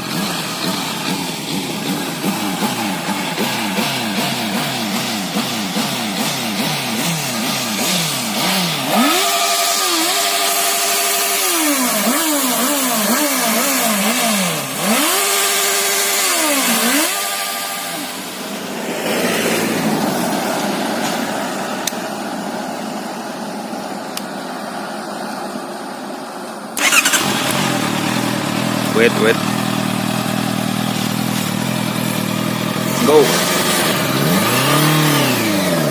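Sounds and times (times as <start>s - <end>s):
motorcycle engine revving: 0.0s - 22.2s, 26.8s - 35.9s.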